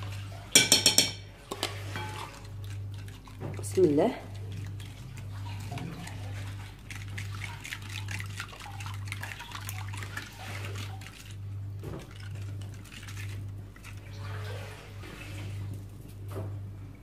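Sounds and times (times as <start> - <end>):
whisk beating mixture in bowl: 0.0 - 15.6.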